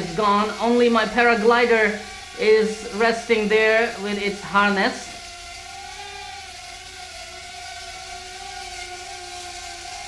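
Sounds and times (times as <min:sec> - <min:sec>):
quadcopter propellers whining: 0:00.0 - 0:10.0.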